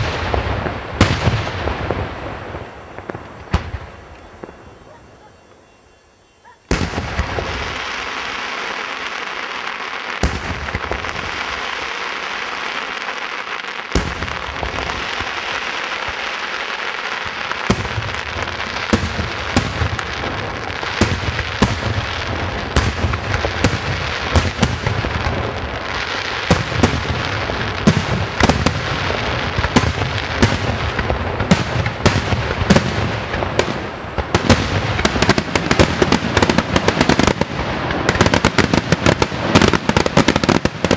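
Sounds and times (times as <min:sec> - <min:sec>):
fireworks bangs: 0:00.0 - 0:05.8, 0:06.4 - 0:40.9
fireworks crackling and fizzing: 0:00.0 - 0:40.9.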